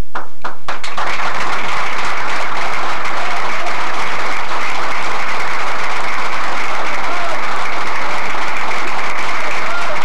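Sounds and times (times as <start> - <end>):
crowd applauding: 0.2 - 10.0.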